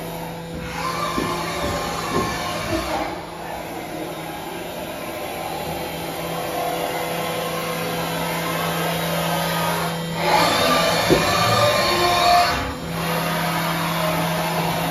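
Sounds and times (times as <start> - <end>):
machining centre spindle humming: 0.0 - 14.9.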